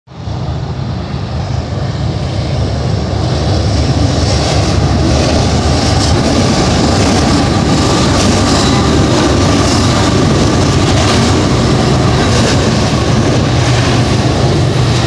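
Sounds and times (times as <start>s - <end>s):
freight train wheels rumbling on rail: 0.1s - 15.0s.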